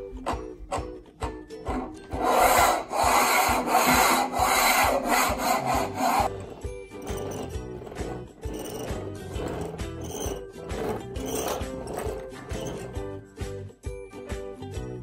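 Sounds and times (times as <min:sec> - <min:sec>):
toy car wheels rolling on wood: 0:00.0 - 0:13.2
quiet background music: 0:00.0 - 0:15.0.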